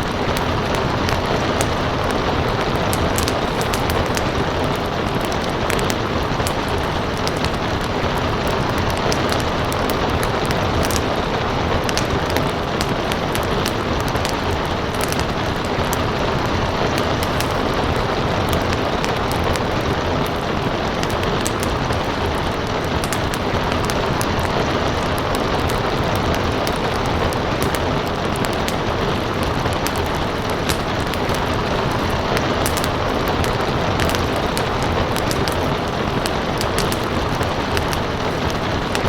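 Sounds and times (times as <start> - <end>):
steady rain hiss: 0.0 - 39.0
wood fire crackling: 0.0 - 39.0.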